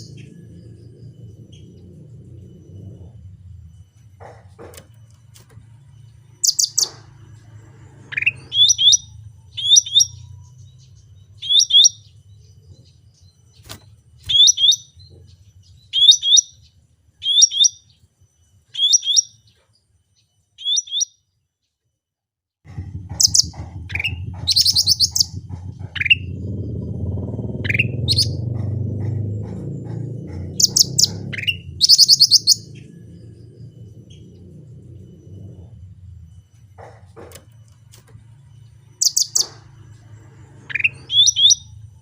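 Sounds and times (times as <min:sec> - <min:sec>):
songbird chirping: 0:00.0 - 0:21.9, 0:22.7 - 0:42.0.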